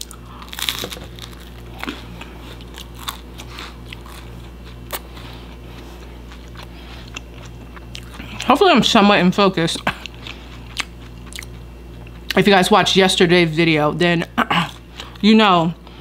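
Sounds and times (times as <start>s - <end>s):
chewing crispy pizza crust: 0.0s - 12.6s, 14.2s - 15.7s.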